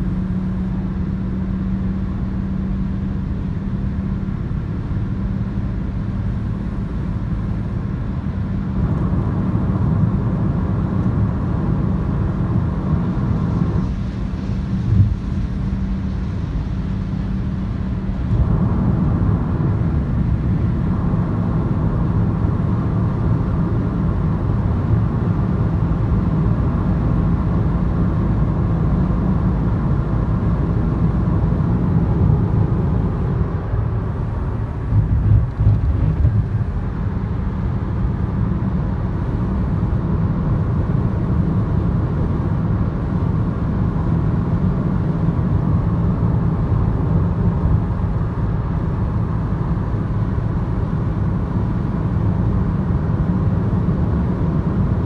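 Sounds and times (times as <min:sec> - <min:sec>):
car cabin road and engine drone: 0:00.0 - 0:55.0.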